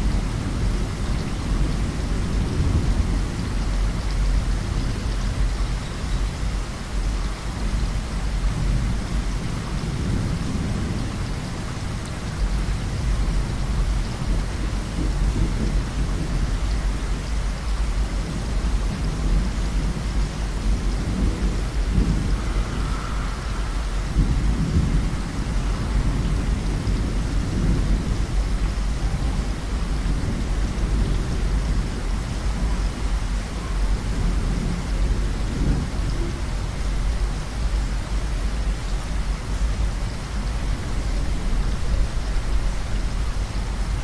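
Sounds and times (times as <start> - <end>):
heavy rain falling: 0.0 - 44.0
rolling thunder: 0.0 - 44.0.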